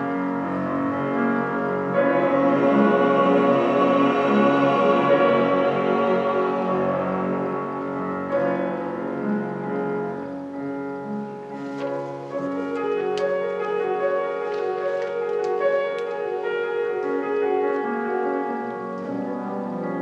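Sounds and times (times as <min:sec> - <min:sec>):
ensemble holding notes: 0:00.0 - 0:20.0
piano accompaniment: 0:00.0 - 0:20.0.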